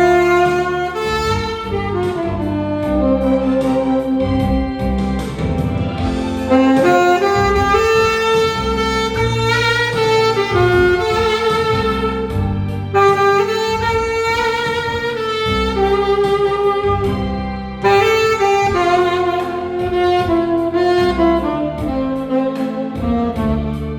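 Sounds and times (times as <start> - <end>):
backing track with bass and keyboard: 0.0 - 23.9
tenor saxophone melody: 0.0 - 23.9.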